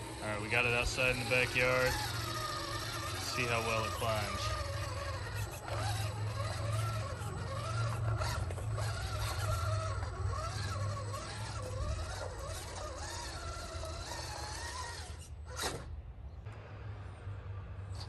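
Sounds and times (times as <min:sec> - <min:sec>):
electric motor whining: 0:00.0 - 0:15.9.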